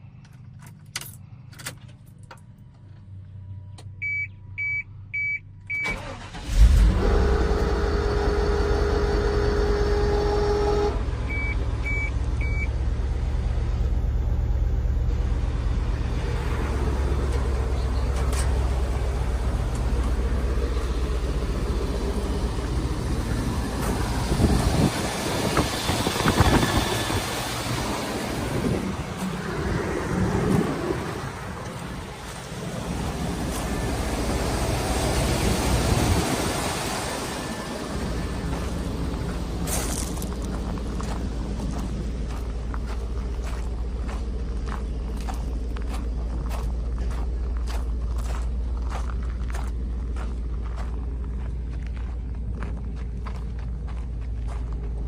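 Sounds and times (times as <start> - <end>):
truck engine starting and idling: 0.0 - 55.0
uneven engine rumbles: 0.0 - 55.0.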